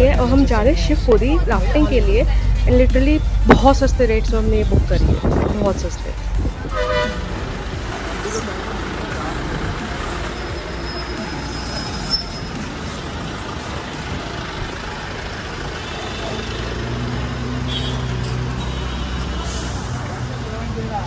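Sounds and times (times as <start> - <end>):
low engine hum: 0.0 - 17.8
road noise: 0.0 - 21.0
vehicle engines running: 0.0 - 21.0.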